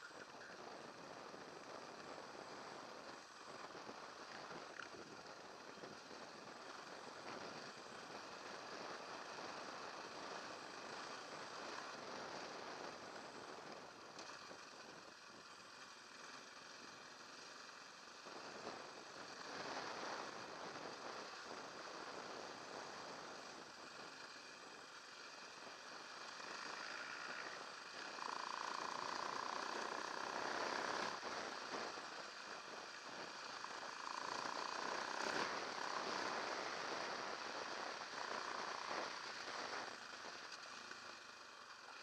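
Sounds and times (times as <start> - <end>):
high engine whine: 0.0 - 42.0.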